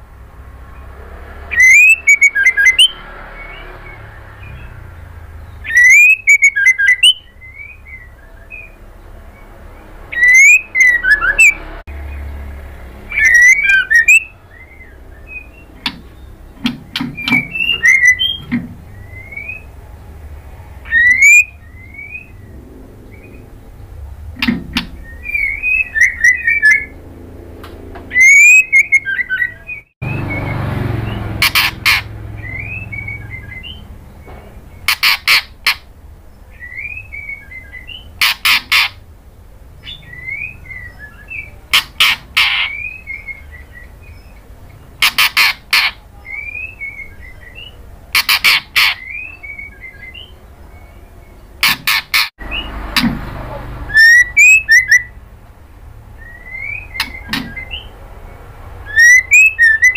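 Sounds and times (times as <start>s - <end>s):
bird twittering: 0.7s - 27.2s, 28.0s - 39.1s, 39.7s - 53.1s, 53.8s - 55.3s, 56.1s - 59.9s
bird calling sharp notes: 1.5s - 8.9s, 10.0s - 11.8s, 12.9s - 19.8s, 20.7s - 34.0s, 34.8s - 35.9s, 36.5s - 39.1s, 39.8s - 50.4s, 51.0s - 53.2s, 53.8s - 55.3s, 56.1s - 58.0s, 58.7s - 59.9s.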